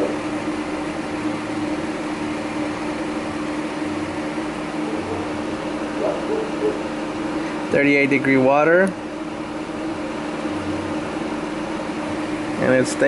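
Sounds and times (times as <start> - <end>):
fan-like hiss: 0.0 - 13.0
machine hum: 0.0 - 13.0.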